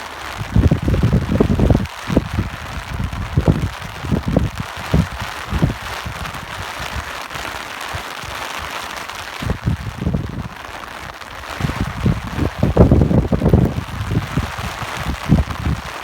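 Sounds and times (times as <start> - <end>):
steady rain: 0.0 - 16.0
wind buffeting microphone: 0.3 - 16.0.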